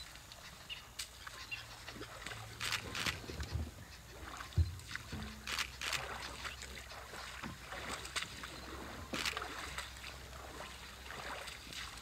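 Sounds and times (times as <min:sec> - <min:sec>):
elephant feet splashing in water: 0:01.9 - 0:12.0.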